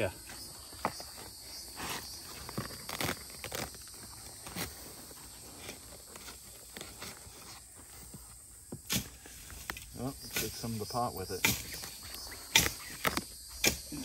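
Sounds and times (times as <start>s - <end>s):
insects chirring: 0.0s - 14.0s
knocks and crackles of bamboo roots: 0.2s - 14.0s.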